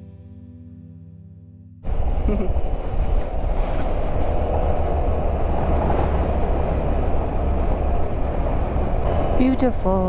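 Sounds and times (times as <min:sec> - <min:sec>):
motorcycle engine rumble: 0:01.9 - 0:10.0
wind on microphone: 0:01.9 - 0:10.0.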